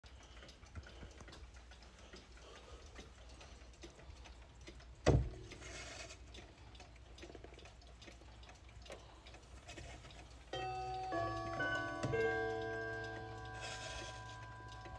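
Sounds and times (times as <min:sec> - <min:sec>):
pendulum clock ticking: 0:00.0 - 0:14.9.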